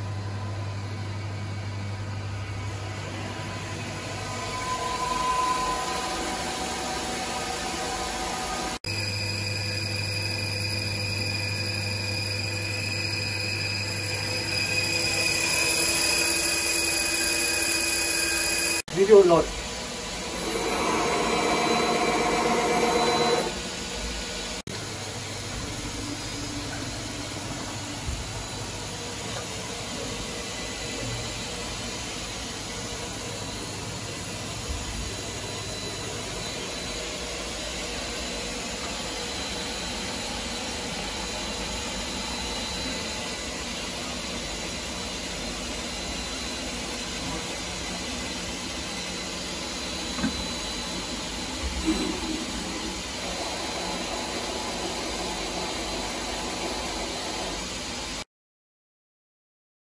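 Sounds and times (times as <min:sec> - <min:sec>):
machine hum and hiss: 0:00.0 - 0:58.2
machine motor whine: 0:00.6 - 0:58.2.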